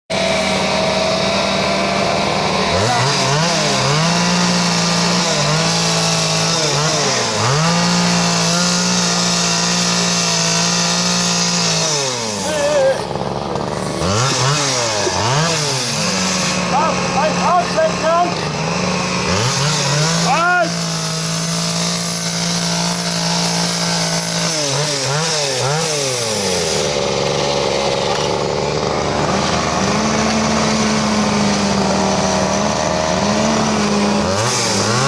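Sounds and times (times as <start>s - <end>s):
chainsaw carving wood: 0.1s - 35.0s.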